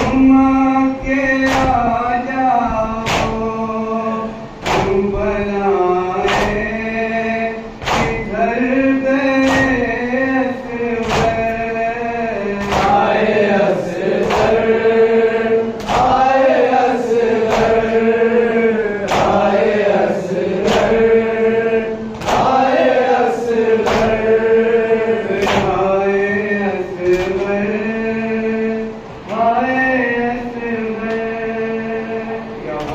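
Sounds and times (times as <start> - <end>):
men chanting a lament: 0.0 - 32.9.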